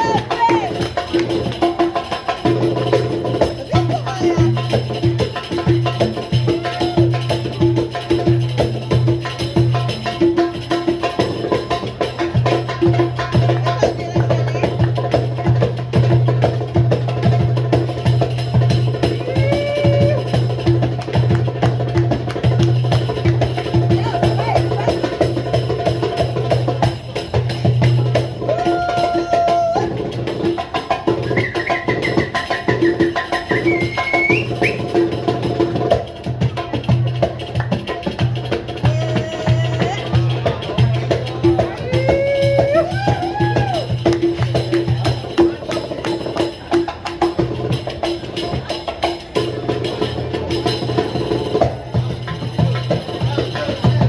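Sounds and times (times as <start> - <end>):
hand percussion: 0.0 - 54.0.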